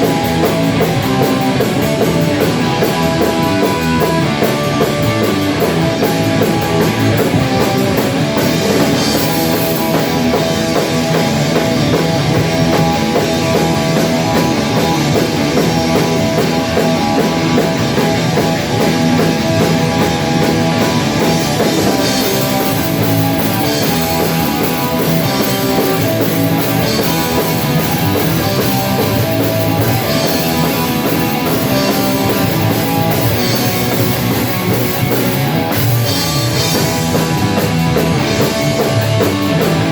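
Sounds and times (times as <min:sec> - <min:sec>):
distorted electric guitar: 0:00.0 - 0:39.9
drum kit with cymbals: 0:00.0 - 0:39.9.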